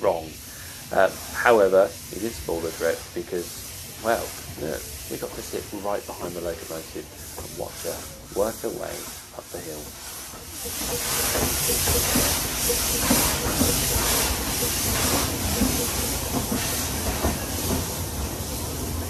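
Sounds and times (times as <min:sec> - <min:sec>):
steam hissing: 0:00.0 - 0:19.0
train running noise: 0:00.0 - 0:19.0.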